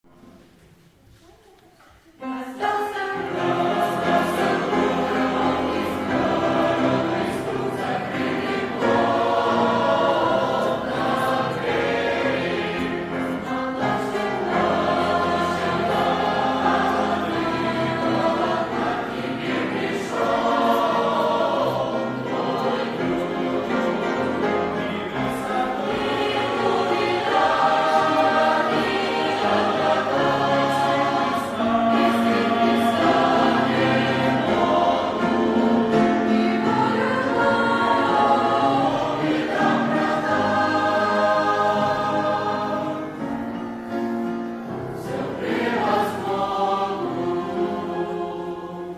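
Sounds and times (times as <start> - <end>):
choir singing a hymn: 2.1 - 48.9.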